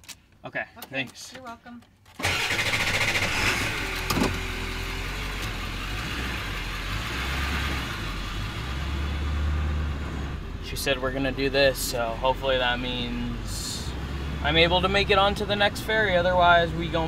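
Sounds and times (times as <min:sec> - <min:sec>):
road noise: 0:00.0 - 0:17.0
diesel engine hum: 0:02.2 - 0:17.0.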